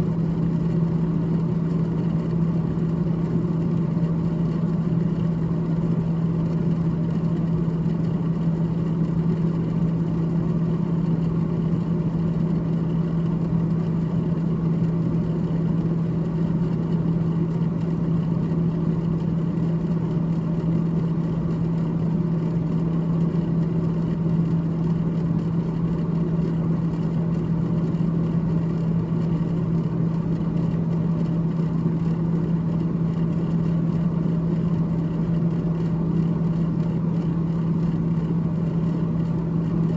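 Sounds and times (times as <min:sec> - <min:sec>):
freezer fan humming: 0:00.0 - 0:39.9.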